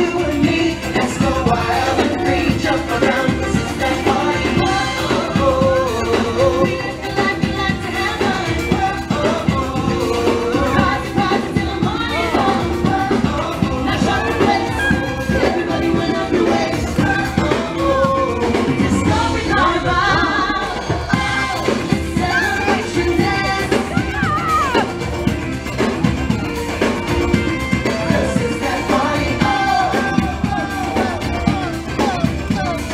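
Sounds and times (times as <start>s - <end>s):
lead singer singing: 0.0s - 25.0s, 27.8s - 32.9s
band playing upbeat dance music: 0.0s - 32.9s
steady drum beat: 0.0s - 32.9s.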